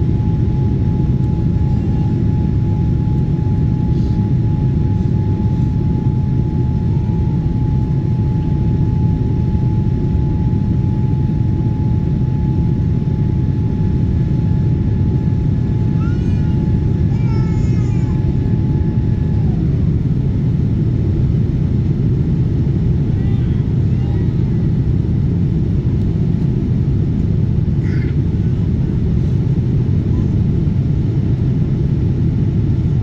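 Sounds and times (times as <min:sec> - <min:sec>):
thin steady whine: 0:00.0 - 0:27.6
jet engine and airflow rumble: 0:00.0 - 0:33.0.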